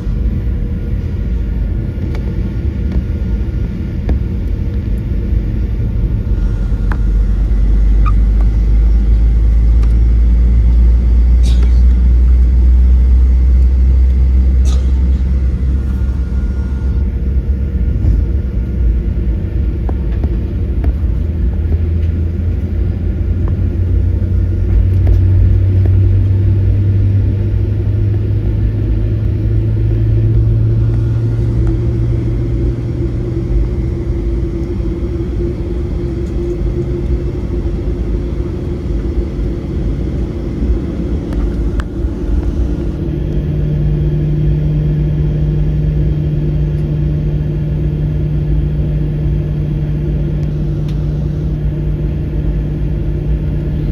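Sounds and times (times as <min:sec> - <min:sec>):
jet engines and airflow in cabin: 0:00.0 - 0:53.9.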